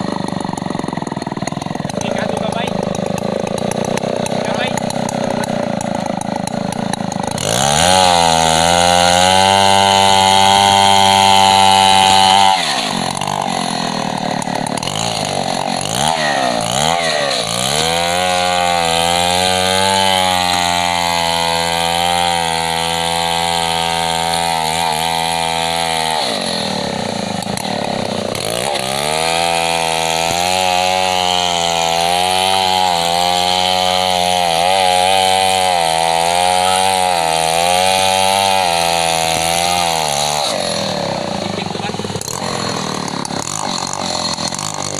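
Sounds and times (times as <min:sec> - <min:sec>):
chainsaw cutting log: 0:00.0 - 0:44.9.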